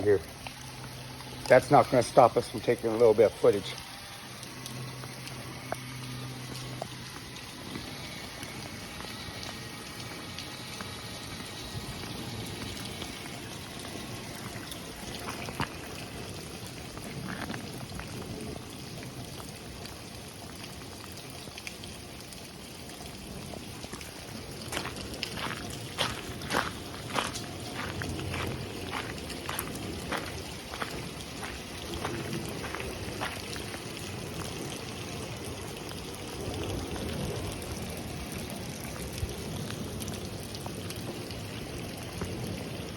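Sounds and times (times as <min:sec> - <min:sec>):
light rain hissing: 0:00.0 - 0:42.9.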